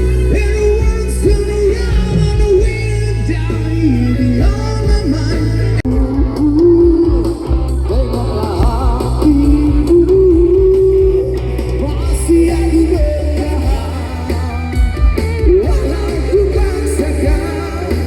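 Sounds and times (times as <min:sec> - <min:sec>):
bass line: 0:00.0 - 0:18.0
live band playing: 0:00.0 - 0:18.0.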